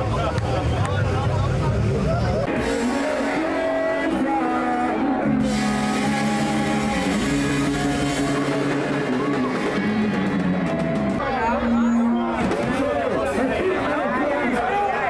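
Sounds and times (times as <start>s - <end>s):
electric guitar: 0.0s - 13.4s
live rock band playing: 0.0s - 13.8s.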